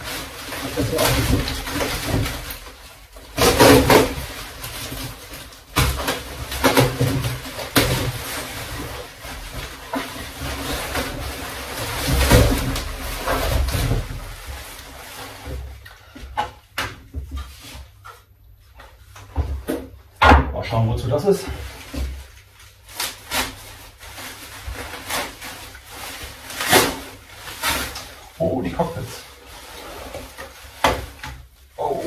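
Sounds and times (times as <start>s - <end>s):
bubble wrap and cardboard crinkling: 0.0s - 20.0s, 20.6s - 32.0s.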